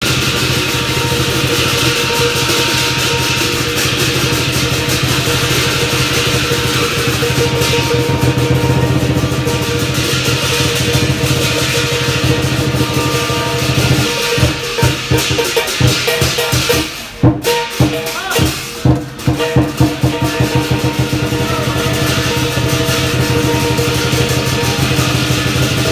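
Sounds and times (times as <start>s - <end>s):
clashing cymbals: 0.0s - 25.9s
drum beaten fast: 0.0s - 25.9s
gong ringing: 0.0s - 25.9s.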